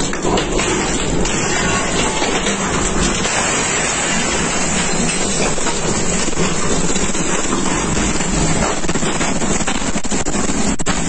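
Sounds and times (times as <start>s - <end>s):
wind and driving rain rushing: 0.0s - 11.0s.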